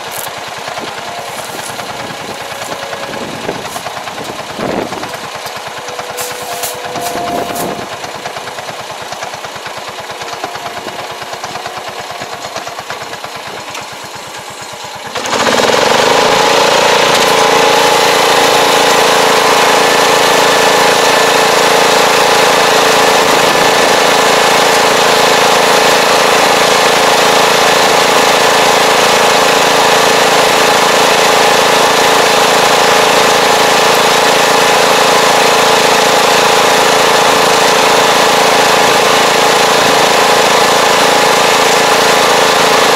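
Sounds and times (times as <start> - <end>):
tractor engine idling and revving: 0.0 - 42.9.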